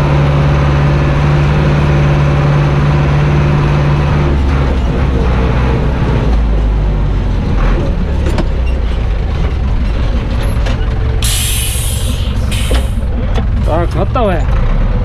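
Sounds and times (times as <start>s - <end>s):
tractor diesel engine rumbling: 0.0s - 15.0s.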